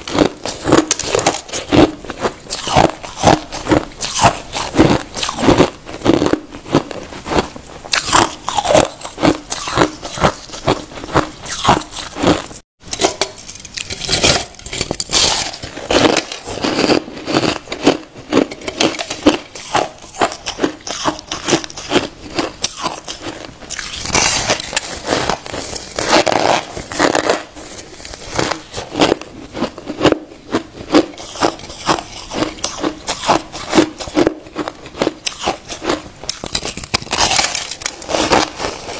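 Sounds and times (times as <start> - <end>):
person chewing crushed ice: 0.0 - 38.9.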